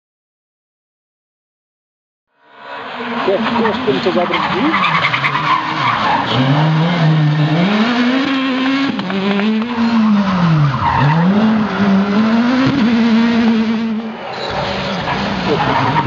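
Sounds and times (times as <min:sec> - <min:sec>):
rally car engine revving: 0:02.4 - 0:16.0.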